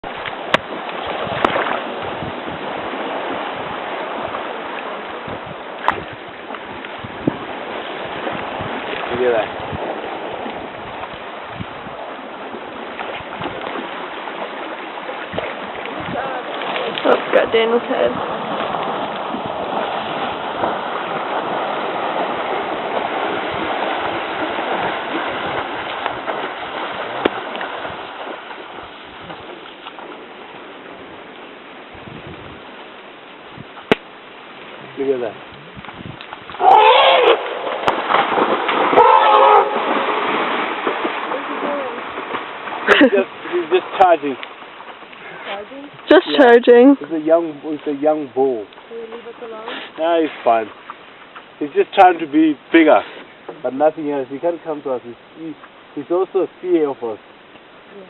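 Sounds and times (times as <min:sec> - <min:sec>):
water rushing: 0:00.0 - 0:58.0
wind: 0:00.0 - 0:58.0.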